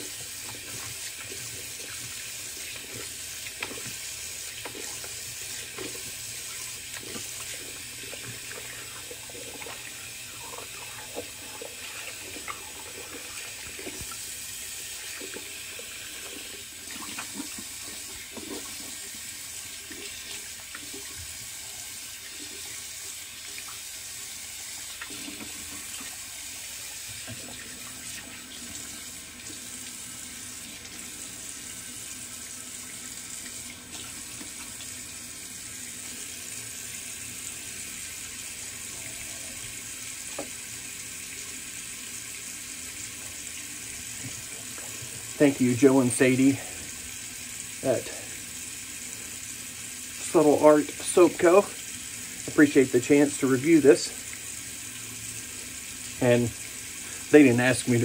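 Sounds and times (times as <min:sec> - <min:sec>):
tap water running into sink: 0:00.0 - 0:58.0.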